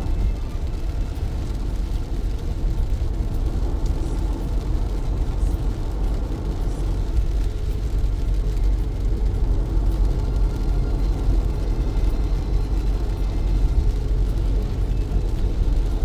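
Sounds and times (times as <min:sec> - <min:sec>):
rain hiss: 0:00.0 - 0:16.0
road and tyre rumble: 0:00.0 - 0:16.0.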